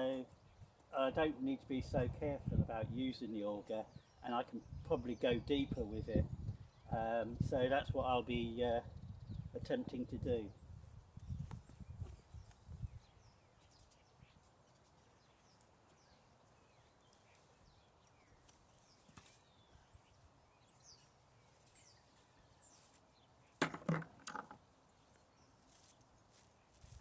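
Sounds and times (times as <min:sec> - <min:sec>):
small birds chirping: 0:00.0 - 0:23.6, 0:24.6 - 0:27.0.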